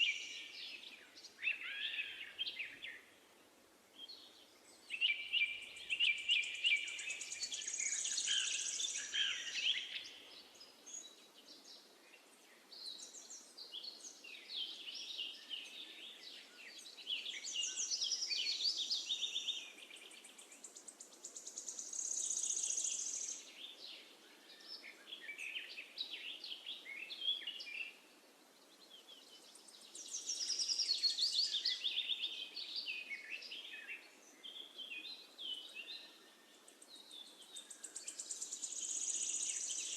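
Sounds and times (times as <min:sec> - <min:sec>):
faint steady background hiss: 0:00.0 - 0:39.9
songbirds chirping and trilling: 0:00.0 - 0:39.9.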